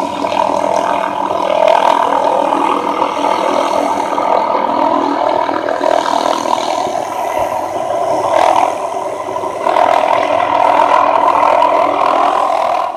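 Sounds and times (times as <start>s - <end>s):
helicopter air saw whirring: 0.0s - 12.9s.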